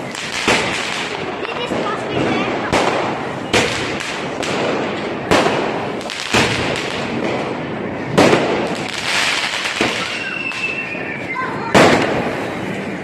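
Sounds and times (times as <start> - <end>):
firecrackers crackling: 0.0 - 13.0
loud firecracker bangs: 0.0 - 13.0.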